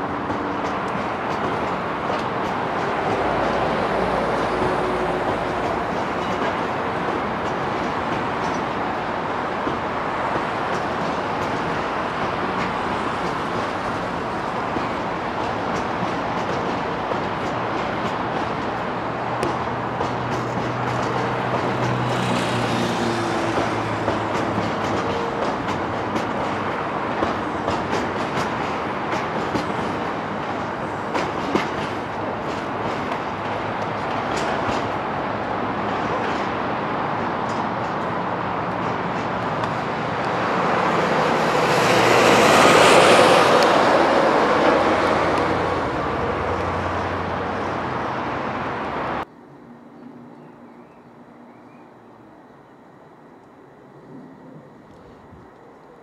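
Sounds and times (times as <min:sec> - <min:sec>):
wheels clacking over rail joints: 0:00.0 - 0:48.0
freight train rolling past: 0:00.0 - 0:56.0.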